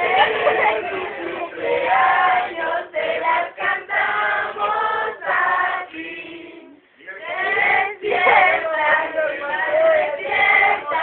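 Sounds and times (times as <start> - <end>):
group singing birthday song: 0.0 - 11.0.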